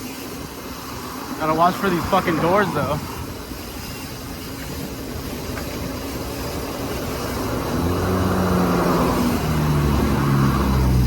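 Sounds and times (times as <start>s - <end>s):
bike tyres road noise: 0.0s - 11.0s
vehicle engine hum: 0.0s - 11.0s.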